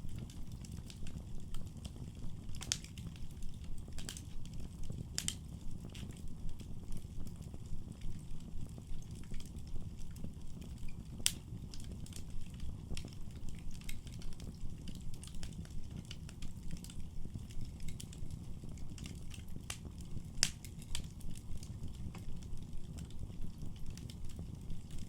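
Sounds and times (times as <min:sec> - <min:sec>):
fire crackling and popping: 0:00.0 - 0:25.0
fire flames rumbling: 0:00.0 - 0:25.0.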